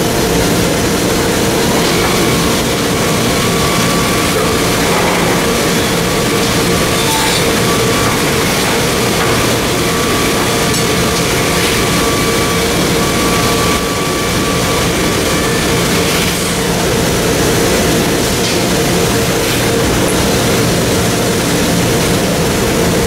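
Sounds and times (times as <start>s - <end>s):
constant two-pitch hum: 0.0s - 23.0s
loud factory machinery: 0.0s - 23.0s.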